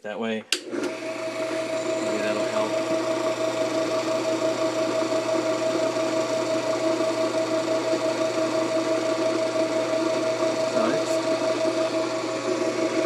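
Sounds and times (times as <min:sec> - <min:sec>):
metal lathe running: 0:00.6 - 0:13.0.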